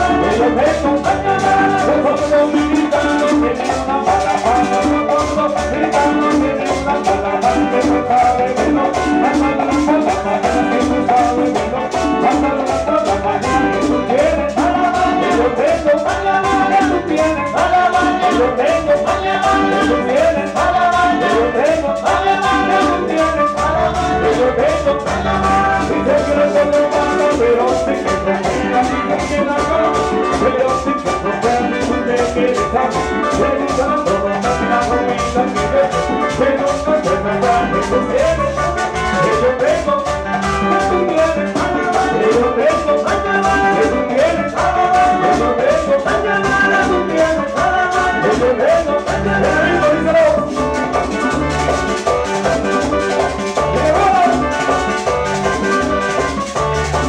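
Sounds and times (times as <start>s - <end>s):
live band playing dance music: 0.0s - 57.0s.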